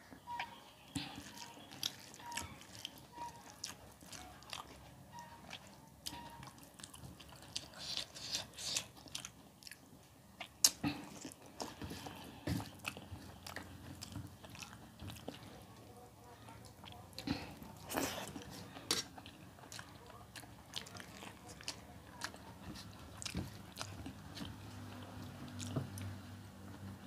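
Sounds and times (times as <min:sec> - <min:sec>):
chewing and lip-smacking: 0:00.4 - 0:15.5, 0:16.6 - 0:26.2.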